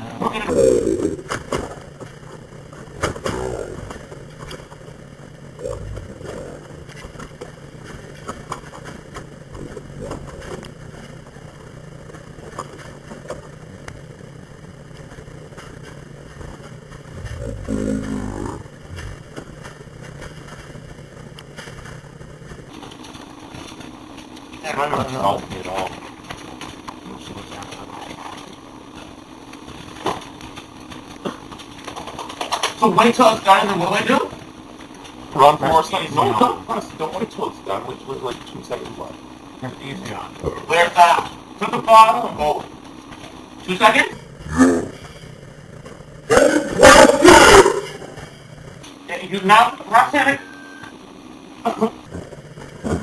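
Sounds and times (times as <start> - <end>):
microwave oven humming: 0.0 - 53.0.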